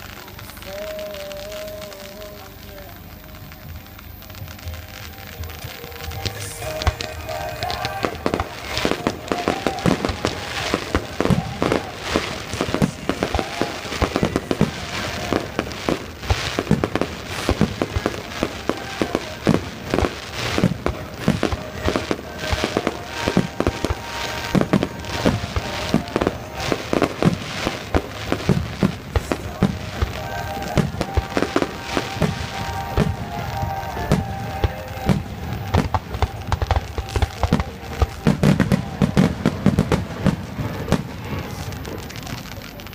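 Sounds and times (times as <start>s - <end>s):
fireworks bursting and crackling: 0.0s - 42.9s
music playing: 0.0s - 42.9s.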